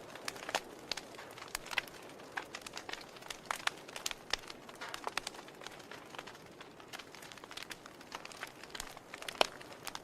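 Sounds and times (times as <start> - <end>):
fire crackling and popping: 0.0 - 10.0.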